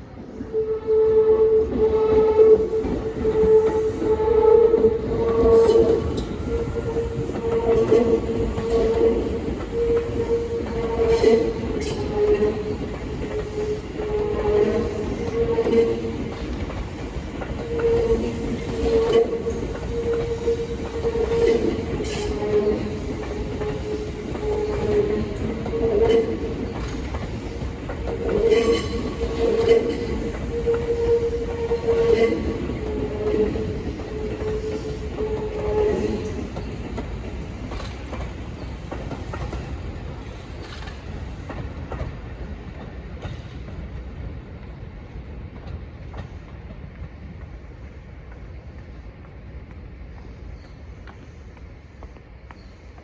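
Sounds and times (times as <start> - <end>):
electric train whine and rumble: 0.0 - 53.0.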